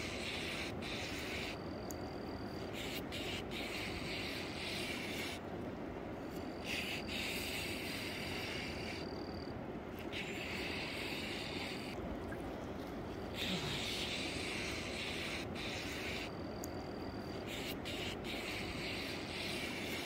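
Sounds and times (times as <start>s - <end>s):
insect chorus: 0.0s - 20.0s
wind: 0.0s - 20.0s.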